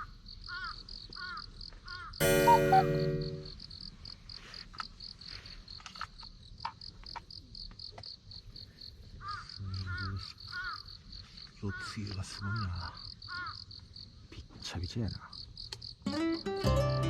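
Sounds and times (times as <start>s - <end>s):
crickets chirping: 0.0s - 16.8s.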